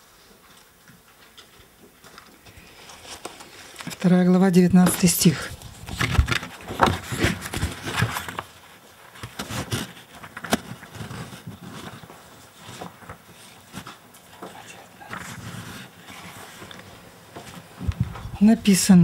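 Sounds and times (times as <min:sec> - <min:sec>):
paper pages rustling: 0:00.4 - 0:18.5.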